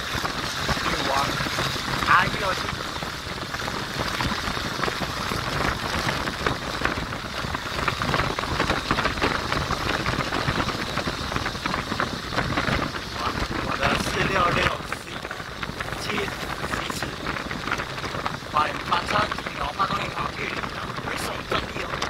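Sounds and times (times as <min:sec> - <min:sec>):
car tyre noise: 0:00.0 - 0:22.0
small crackles: 0:00.0 - 0:22.0
wind rushing over microphone: 0:00.0 - 0:22.0.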